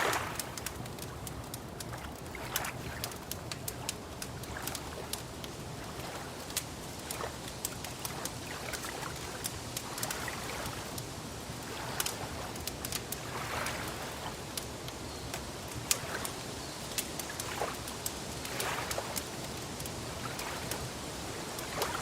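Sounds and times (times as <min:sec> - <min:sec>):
water lapping: 0:00.0 - 0:22.0
wood fire crackling: 0:00.0 - 0:22.0.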